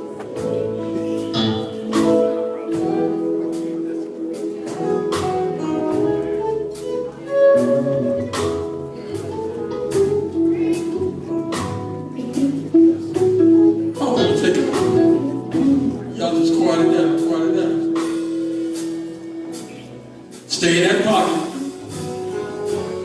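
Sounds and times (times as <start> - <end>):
guitar: 0.0 - 23.0
steady drum beat: 0.0 - 23.0.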